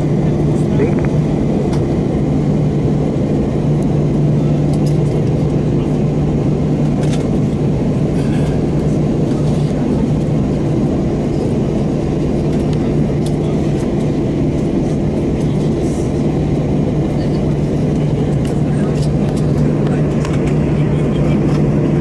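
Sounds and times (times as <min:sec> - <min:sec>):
aircraft cabin engine drone: 0:00.0 - 0:22.0
constant hum: 0:00.0 - 0:22.0.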